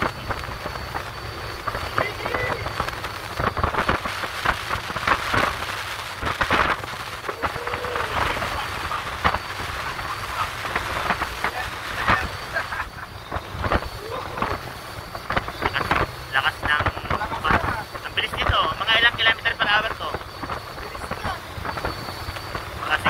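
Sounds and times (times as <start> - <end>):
low engine rumble: 0.0 - 23.0
water rushing along a hull: 0.0 - 23.0
waves slapping a hull: 0.0 - 23.0.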